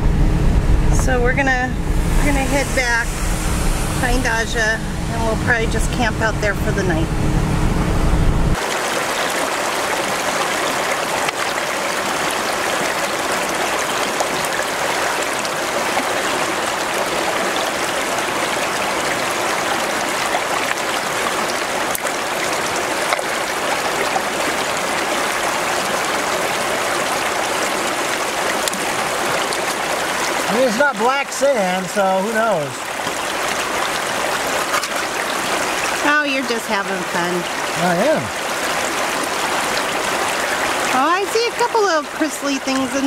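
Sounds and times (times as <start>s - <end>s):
creek running over stones: 8.5s - 43.0s.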